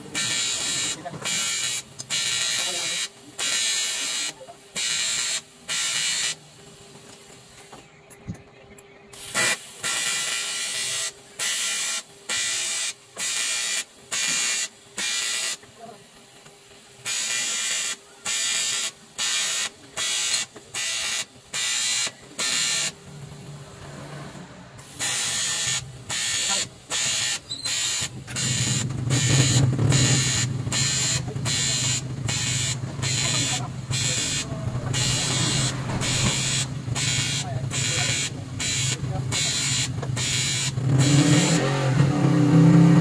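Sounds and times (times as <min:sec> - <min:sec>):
welding arc hissing: 0:00.0 - 0:06.6, 0:09.1 - 0:15.7, 0:17.0 - 0:23.0, 0:24.8 - 0:43.0.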